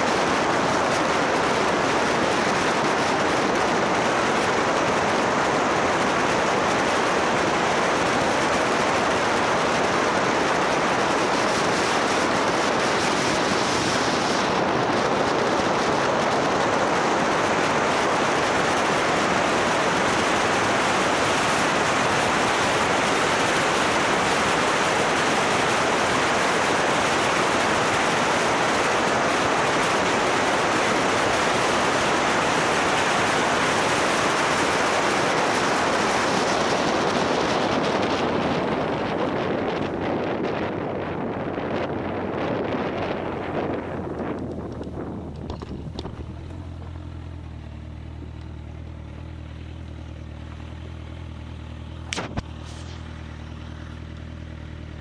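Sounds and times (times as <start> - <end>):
road noise: 0.0 - 55.0
rushing wind: 0.0 - 55.0.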